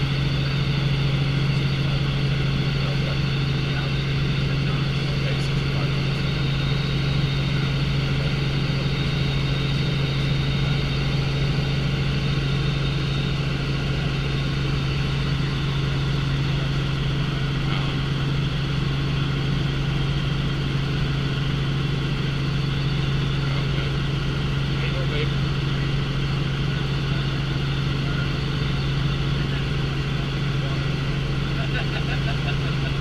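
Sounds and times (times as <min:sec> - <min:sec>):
helicopter drone: 0:00.0 - 0:33.0.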